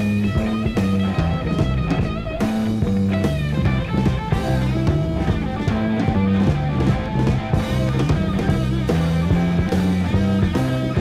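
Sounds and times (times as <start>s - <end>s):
bass guitar: 0.0s - 11.0s
drum kit steady beat: 0.0s - 11.0s
electric guitar: 0.0s - 11.0s.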